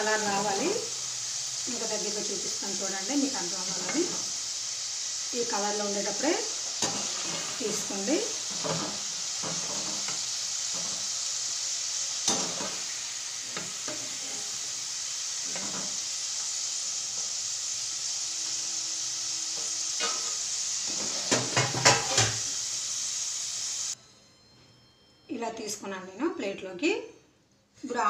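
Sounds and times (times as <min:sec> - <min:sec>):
deep-frying sizzle: 0:00.0 - 0:24.0.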